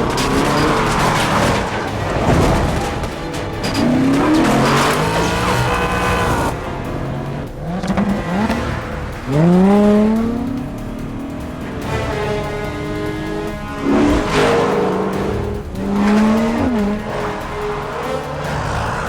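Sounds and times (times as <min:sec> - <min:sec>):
orchestral film score: 0:00.0 - 0:19.0
sports car engines revving: 0:00.0 - 0:19.0.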